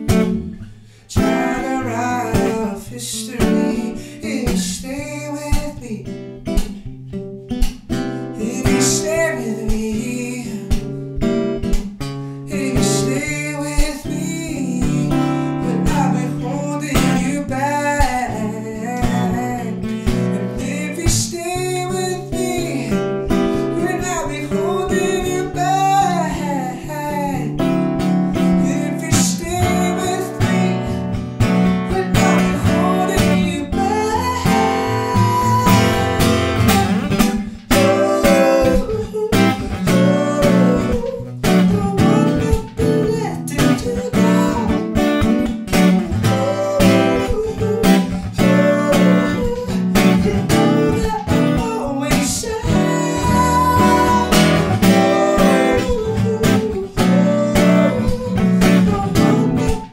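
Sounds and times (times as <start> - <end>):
strummed acoustic guitar: 0.0 - 59.9
man singing: 1.0 - 6.2, 8.4 - 11.0, 12.5 - 59.9.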